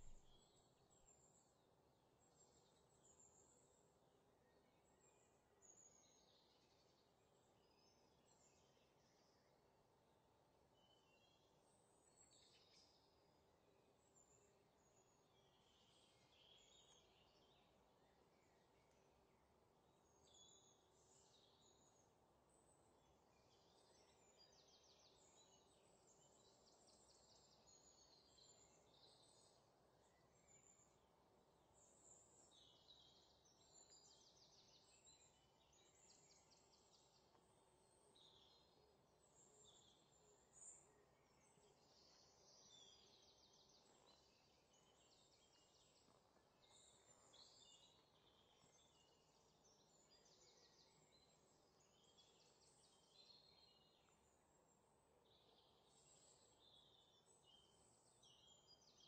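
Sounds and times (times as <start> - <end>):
faint birds chirping and trilling: 0.0 - 59.0.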